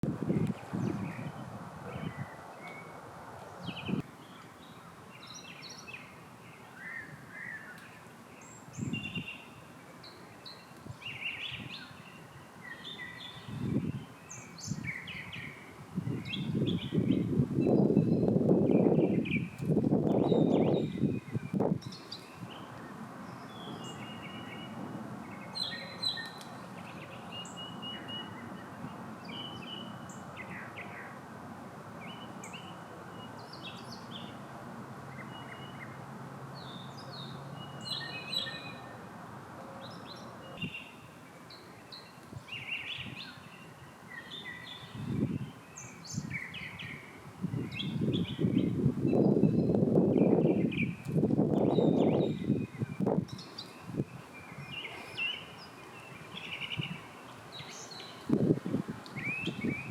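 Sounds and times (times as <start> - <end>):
birds chirping: 0.3 - 31.2, 35.1 - 39.0, 39.7 - 58.5, 59.1 - 59.9.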